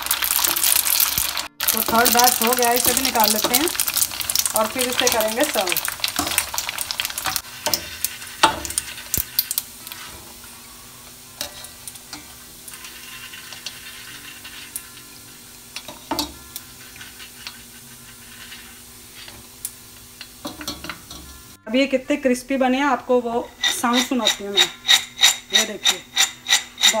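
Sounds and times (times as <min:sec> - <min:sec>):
hot oil sizzling and crackling: 0:00.0 - 0:21.6, 0:23.2 - 0:27.0.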